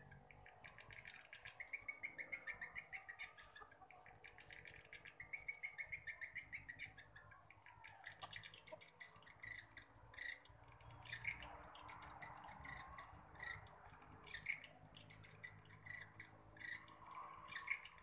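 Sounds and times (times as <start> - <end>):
faint high bird chirping: 0.0 - 18.0.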